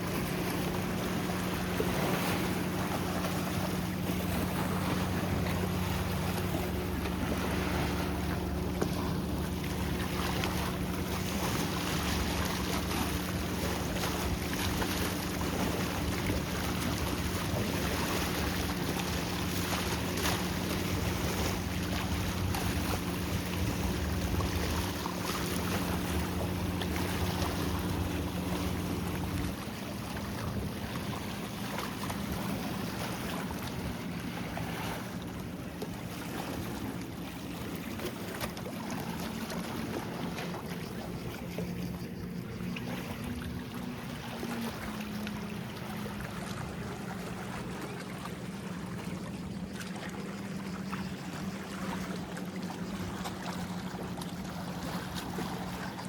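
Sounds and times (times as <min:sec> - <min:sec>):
boat engine droning: 0:00.0 - 0:56.0
waves washing: 0:00.0 - 0:56.0
wind: 0:00.0 - 0:56.0.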